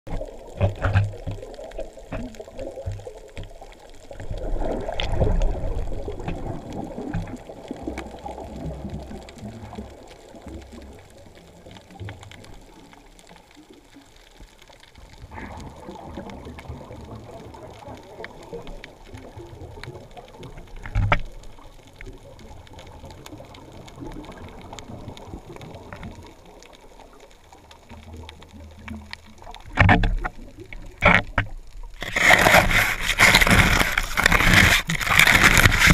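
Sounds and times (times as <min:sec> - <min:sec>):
muffled underwater water rushing: 0:00.1 - 0:35.9.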